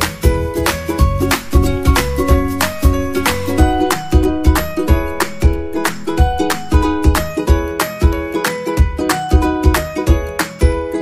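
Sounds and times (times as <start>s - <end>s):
music with plucked strings and beat: 0.0s - 11.0s.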